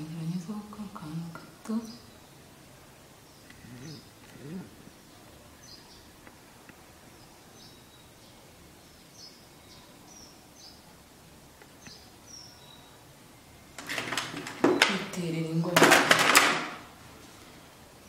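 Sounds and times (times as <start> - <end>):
small birds chirping: 0.0 - 15.6
room hiss: 0.0 - 18.0.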